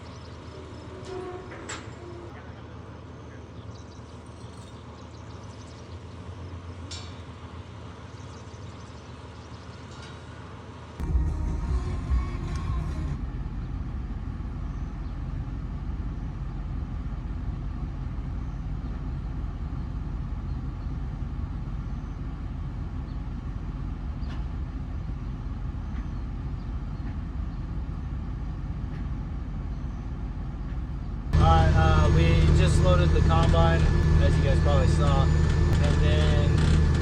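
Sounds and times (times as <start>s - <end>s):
road noise: 0.0s - 37.0s
vehicle engine rumble: 0.0s - 37.0s.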